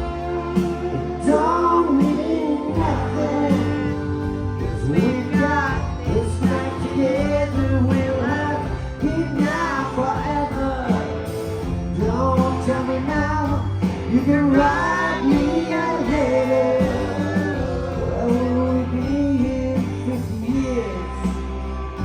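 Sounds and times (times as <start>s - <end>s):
person singing: 0.0s - 21.6s
guitar: 0.0s - 22.0s
live rock band playing: 0.0s - 22.0s
low bass: 0.0s - 22.0s.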